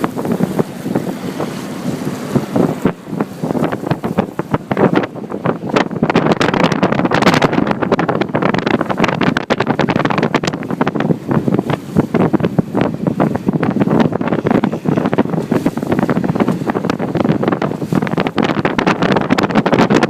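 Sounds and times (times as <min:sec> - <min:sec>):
outboard motor running: 0:00.0 - 0:20.0
wind buffeting microphone: 0:00.0 - 0:20.0.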